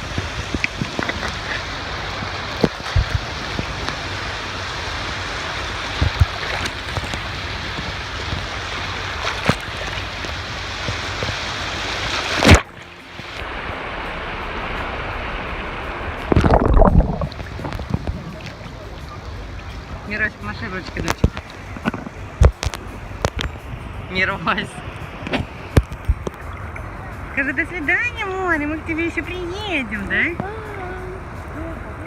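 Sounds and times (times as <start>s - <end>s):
sea water rushing: 0.0s - 32.0s.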